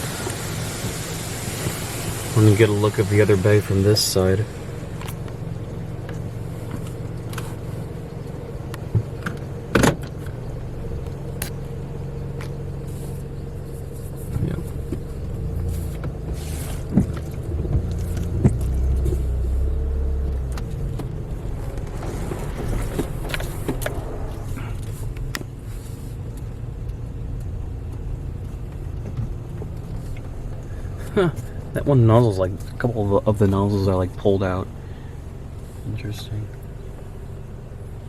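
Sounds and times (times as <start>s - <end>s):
car engine hum: 0.0s - 38.0s
deep rumble: 0.0s - 38.0s.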